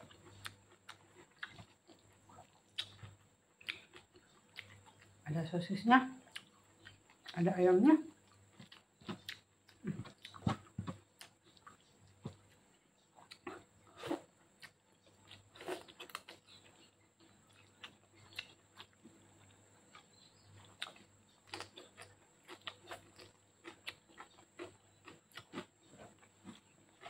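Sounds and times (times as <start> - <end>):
person chewing food: 0.0 - 5.2, 6.2 - 7.5, 8.1 - 27.0.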